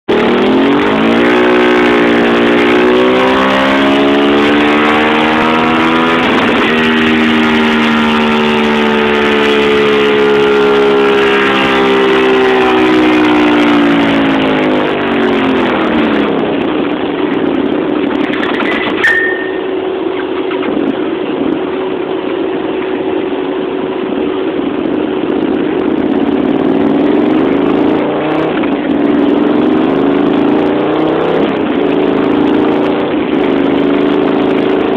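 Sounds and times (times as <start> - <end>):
motorcycle engine revving under load: 0.0 - 34.9.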